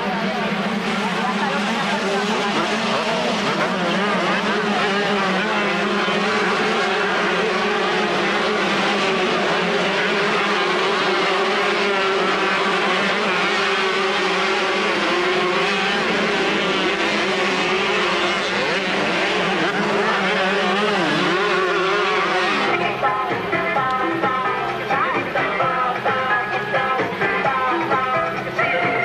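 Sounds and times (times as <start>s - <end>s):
motocross bikes revving: 0.0s - 29.0s.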